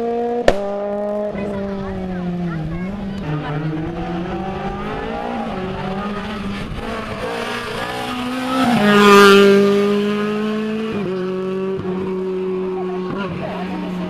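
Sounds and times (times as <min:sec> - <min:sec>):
rally car engine at high revs: 0:00.0 - 0:14.0.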